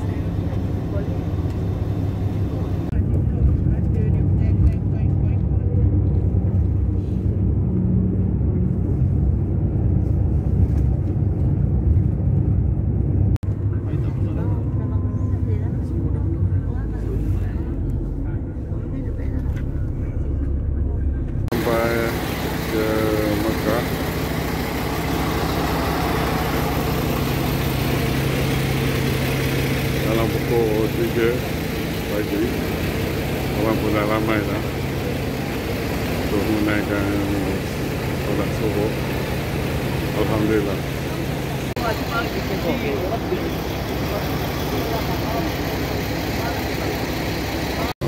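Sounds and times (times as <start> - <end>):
bus engine rumble: 0.0 - 48.0
road noise: 0.0 - 48.0.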